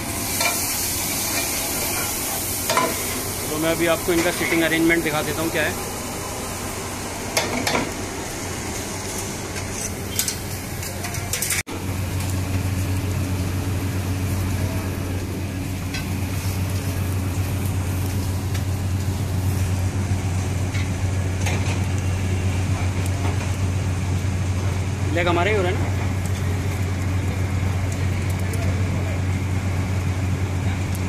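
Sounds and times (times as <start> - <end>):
food sizzling in pans: 0.0 - 31.0
steady low hum: 0.0 - 31.0.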